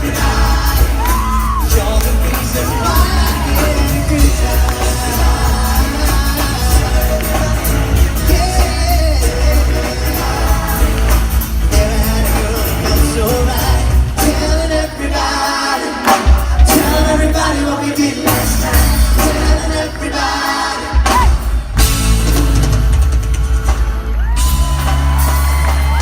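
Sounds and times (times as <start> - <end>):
vocal harmony singing: 0.0 - 21.7
live pop band music: 0.0 - 26.0.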